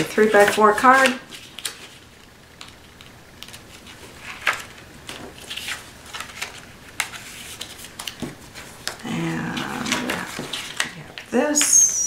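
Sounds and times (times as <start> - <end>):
paper rustling: 0.0 - 11.3.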